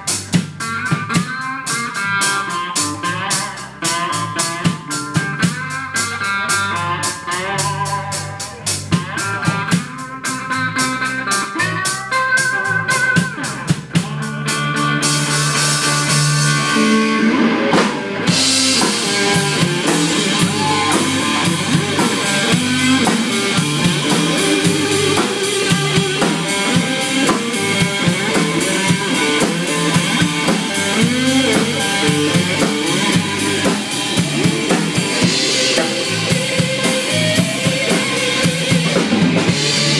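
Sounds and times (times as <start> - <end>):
drum kit: 0.0 - 39.9
electric guitar lead: 0.0 - 39.9.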